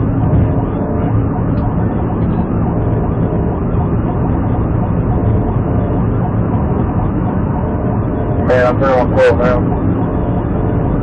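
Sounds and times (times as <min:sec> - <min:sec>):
car engine and road noise: 0:00.0 - 0:11.0
police siren wailing: 0:00.0 - 0:11.0.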